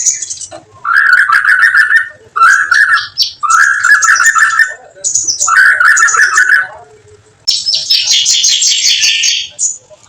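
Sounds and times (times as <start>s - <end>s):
songbird chatter calls: 0.0s - 10.0s.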